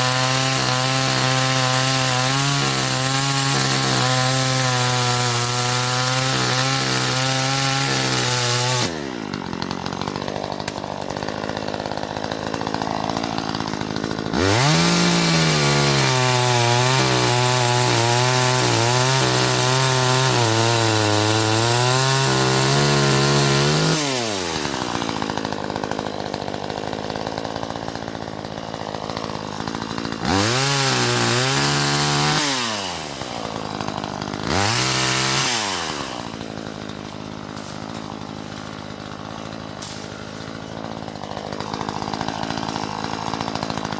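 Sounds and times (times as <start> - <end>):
chainsaw cutting wood: 0.0 - 43.9
chainsaw idling: 0.0 - 43.9.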